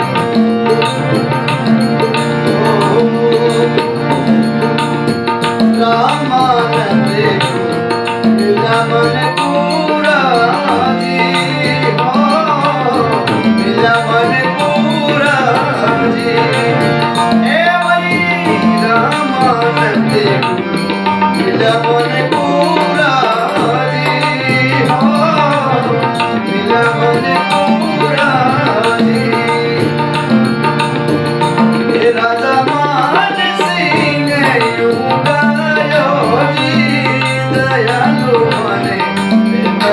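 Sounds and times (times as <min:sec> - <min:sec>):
hand drum rhythm: 0:00.0 - 0:39.9
sliding melody line: 0:00.0 - 0:39.9.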